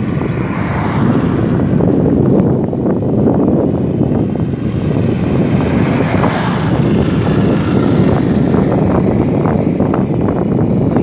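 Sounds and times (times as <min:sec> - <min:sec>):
vehicle running noise: 0:00.0 - 0:11.0
wind buffeting microphone: 0:00.0 - 0:11.0.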